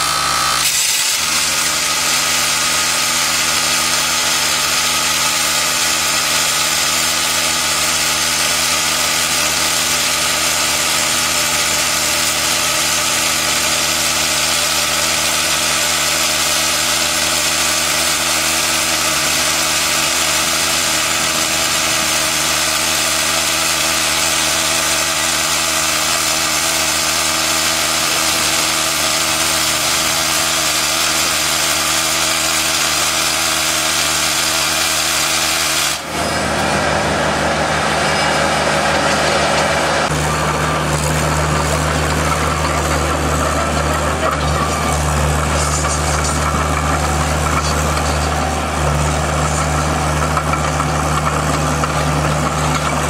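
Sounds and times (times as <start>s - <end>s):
rock drill drilling rock: 0.0s - 36.8s, 38.9s - 53.0s.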